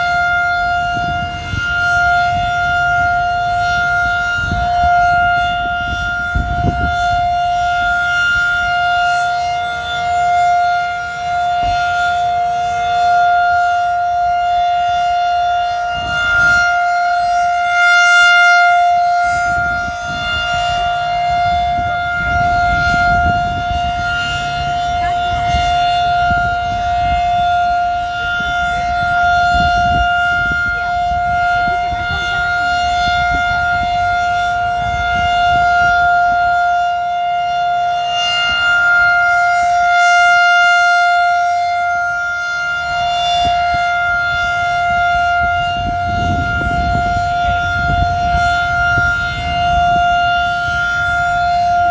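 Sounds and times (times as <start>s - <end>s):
rotating siren tone: 0.0s - 51.9s.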